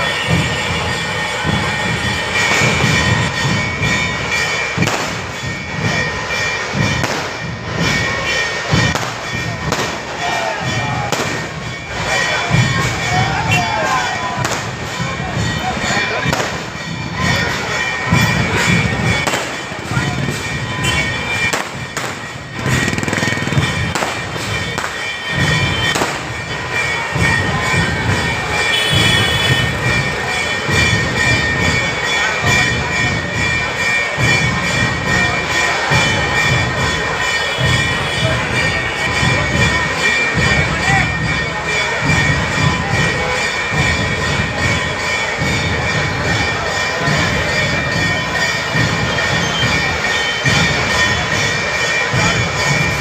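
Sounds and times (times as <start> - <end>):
traffic rumble: 0.0 - 53.0.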